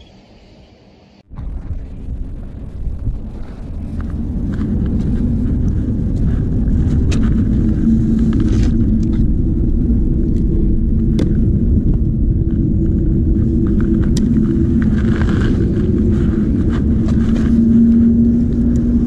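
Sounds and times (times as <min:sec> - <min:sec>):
engine droning hum: 0:00.0 - 0:19.0.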